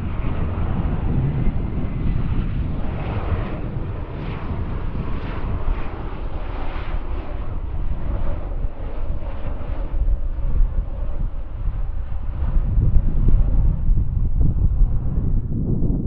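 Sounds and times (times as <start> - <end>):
jet airliner passing low: 0.0 - 16.0
wind rumbling on microphone: 0.0 - 16.0.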